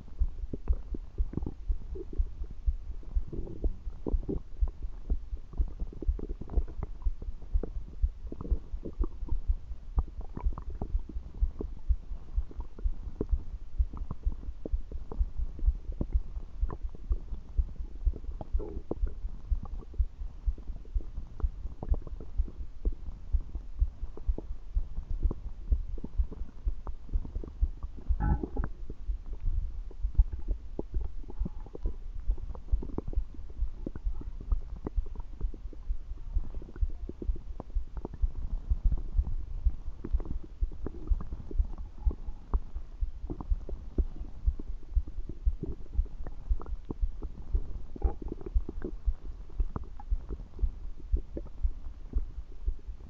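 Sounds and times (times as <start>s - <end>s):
stomach gurgling: 0.0s - 53.0s.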